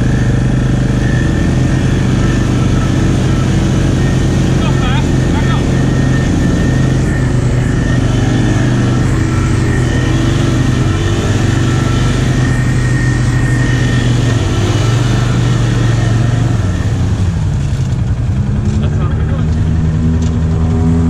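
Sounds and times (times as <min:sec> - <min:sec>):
quad engine revving high: 0:00.0 - 0:21.0
tires spinning in mud: 0:00.0 - 0:21.0.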